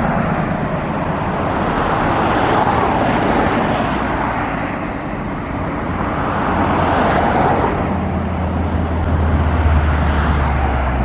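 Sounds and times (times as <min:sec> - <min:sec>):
cars swishing by: 0:00.0 - 0:11.0
heavy vehicle engine drone: 0:00.0 - 0:11.0.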